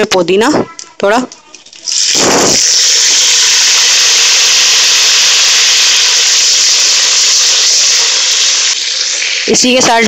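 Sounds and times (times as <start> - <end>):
leaves sizzling in hot oil: 1.8 - 10.0.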